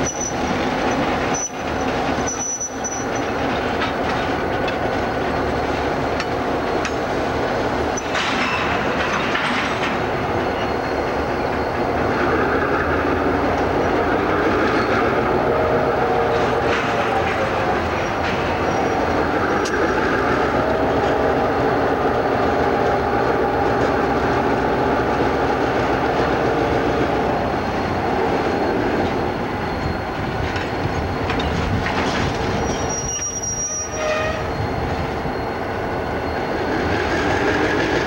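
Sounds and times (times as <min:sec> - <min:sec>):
diesel locomotive engine droning: 0:00.0 - 0:38.0
wheels squealing on rail: 0:00.0 - 0:38.0.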